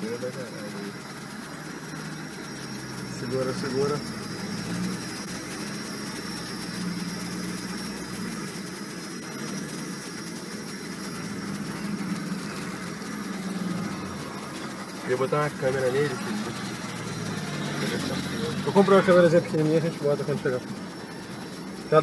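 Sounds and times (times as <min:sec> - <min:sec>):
car engine running: 0:00.0 - 0:22.0
road noise on dirt road: 0:00.0 - 0:22.0.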